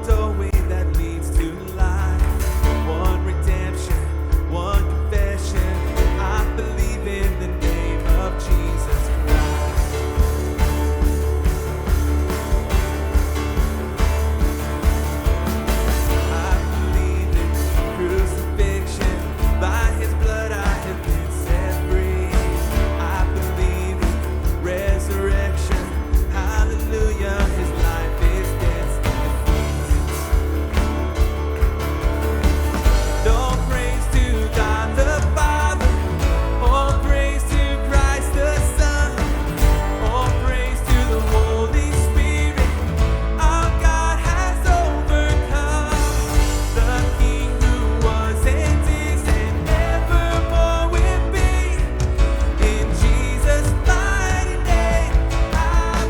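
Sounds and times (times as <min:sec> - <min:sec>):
bass: 0:00.0 - 0:56.0
drums: 0:00.0 - 0:56.0
guitar: 0:00.0 - 0:56.0
live worship band playing: 0:00.0 - 0:56.0
person singing: 0:00.0 - 0:56.0
piano: 0:00.0 - 0:56.0.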